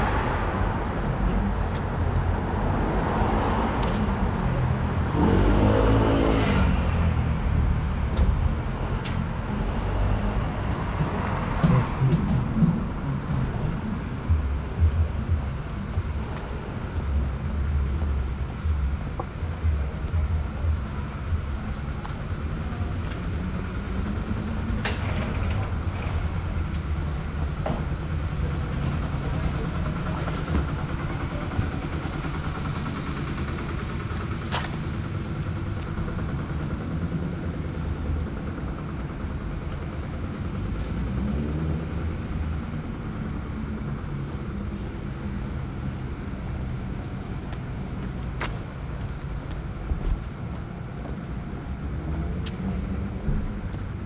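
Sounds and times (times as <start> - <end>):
low rumble of road traffic: 0.0 - 54.0.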